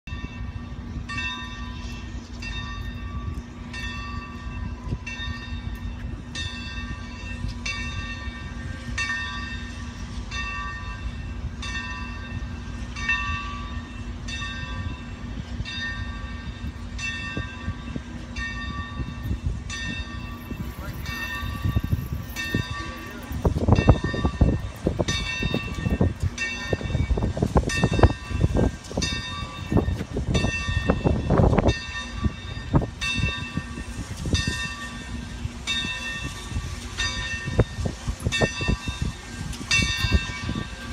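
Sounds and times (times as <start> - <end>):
locomotive bell ringing: 0.1 - 40.9.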